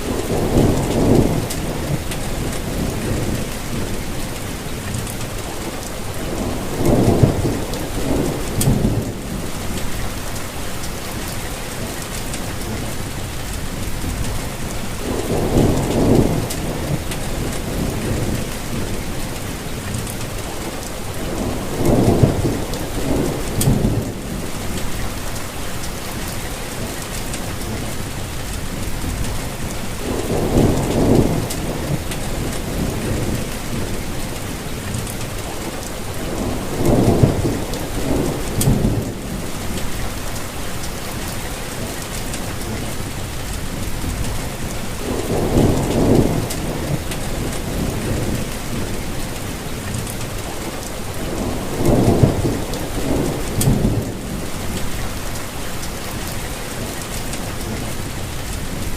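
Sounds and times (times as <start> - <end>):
low thunder rumbling: 0.0 - 11.8, 12.4 - 41.5, 42.4 - 58.9
steady rain: 0.0 - 58.9.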